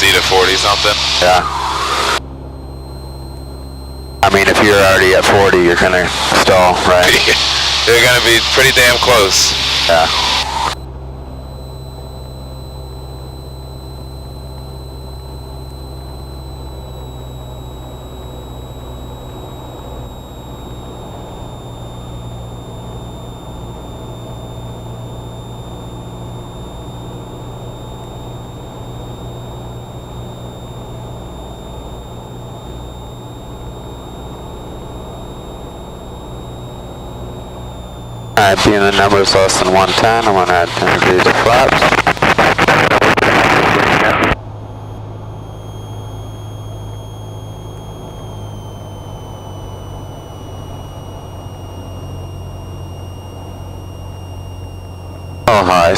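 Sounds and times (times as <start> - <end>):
propeller plane engine droning: 0.0 - 55.9
thin high-pitched whines: 0.0 - 55.9.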